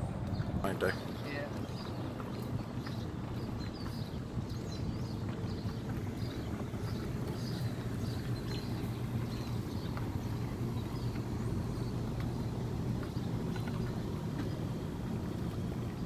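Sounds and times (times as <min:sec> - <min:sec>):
engine humming: 0:00.0 - 0:16.0
small birds chirping: 0:00.1 - 0:16.0.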